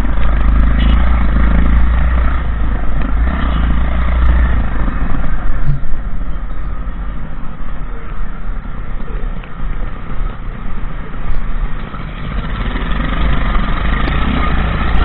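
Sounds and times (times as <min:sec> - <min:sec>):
motorcycle engine: 0:00.0 - 0:07.5, 0:09.9 - 0:15.0
road noise: 0:00.0 - 0:15.0
wind noise: 0:00.0 - 0:15.0.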